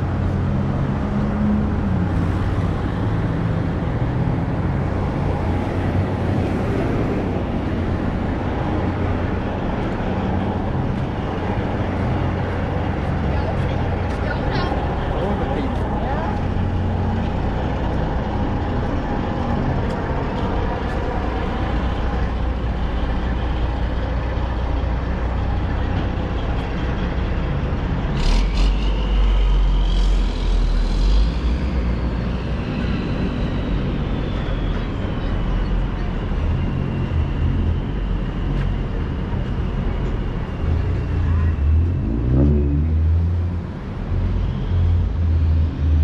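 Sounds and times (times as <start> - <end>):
street traffic rumble: 0.0 - 46.0
high whine: 4.4 - 45.9.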